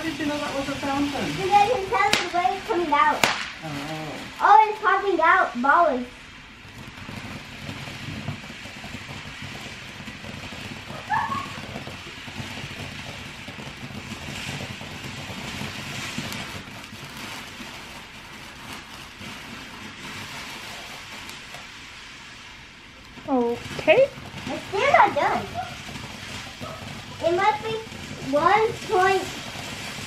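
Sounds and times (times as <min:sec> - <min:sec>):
firework fountain hissing and crackling: 0:00.0 - 0:30.0.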